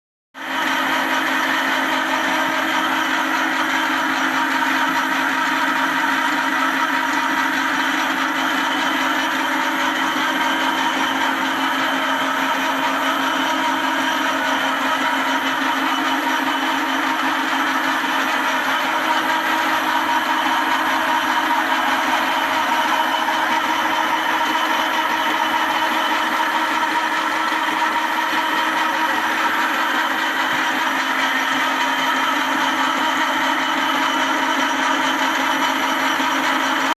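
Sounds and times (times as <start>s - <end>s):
lathe humming and whining: 0.4s - 36.9s.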